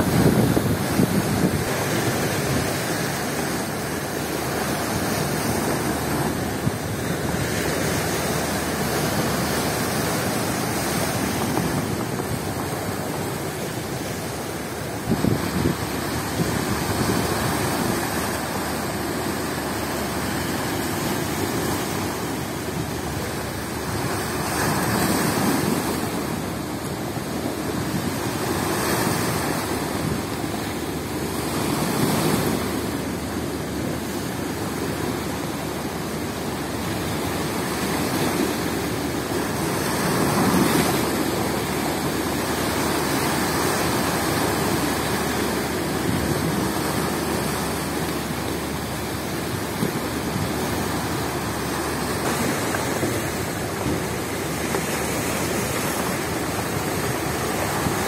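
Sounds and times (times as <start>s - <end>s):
strong wind: 0.0s - 58.0s
surf crashing on rocky shore: 0.0s - 58.0s.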